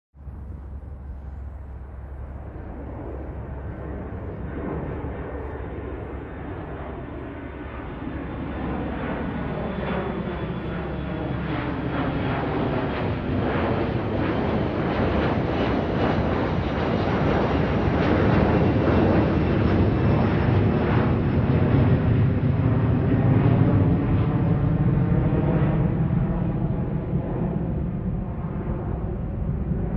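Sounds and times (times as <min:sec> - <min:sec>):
airplane rumble overhead: 0:00.2 - 0:29.9.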